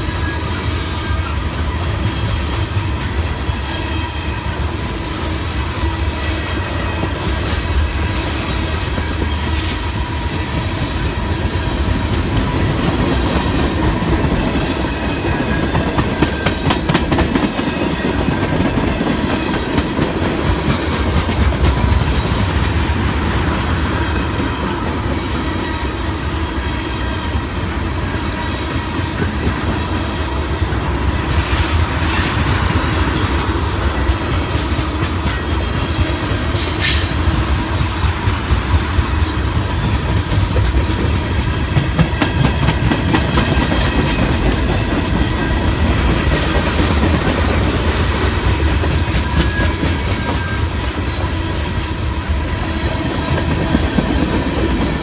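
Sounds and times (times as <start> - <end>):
freight train rumbling by: 0.0 - 55.0.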